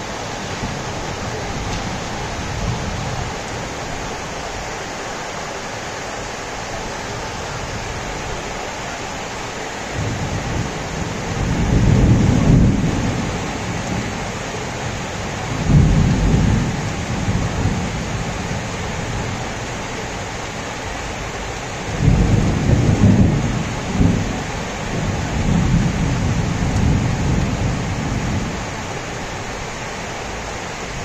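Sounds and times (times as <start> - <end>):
heavy rain on trees and roofs: 0.0 - 31.0.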